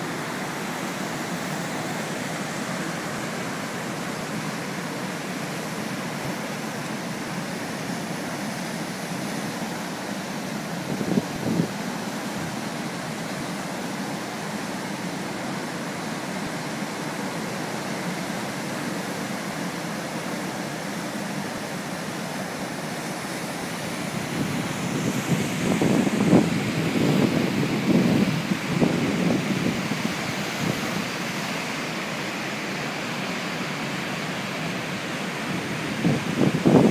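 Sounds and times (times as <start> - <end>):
waves breaking: 0.0 - 36.9.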